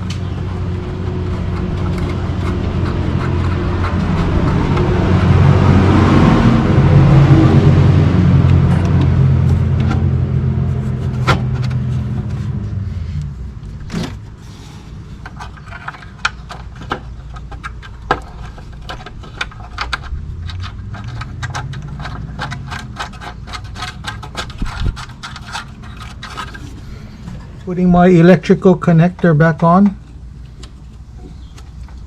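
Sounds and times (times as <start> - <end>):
low vehicle rumble: 0.0 - 29.3.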